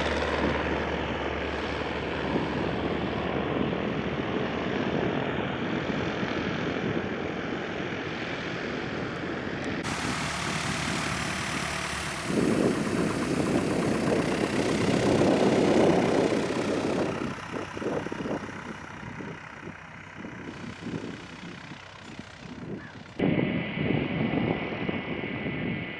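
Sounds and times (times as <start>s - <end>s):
propeller airplane engine running: 0.0s - 25.9s.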